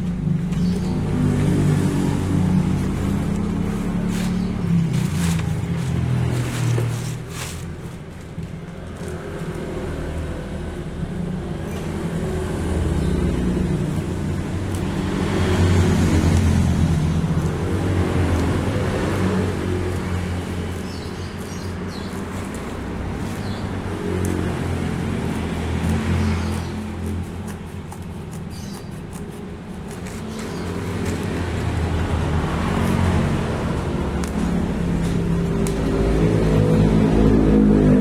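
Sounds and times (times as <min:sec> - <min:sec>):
motor vehicle engine running: 0:00.0 - 0:38.0.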